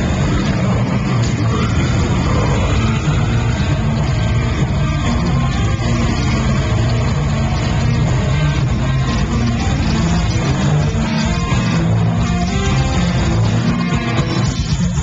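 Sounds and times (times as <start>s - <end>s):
death metal band playing live: 0.0s - 15.0s.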